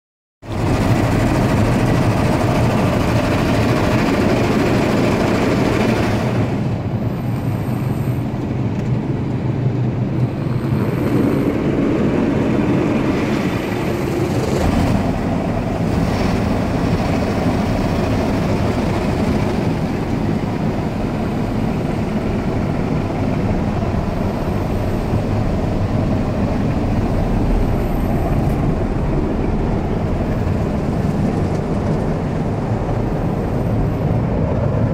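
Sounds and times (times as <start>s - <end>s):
car wash machinery: 0.4s - 34.9s.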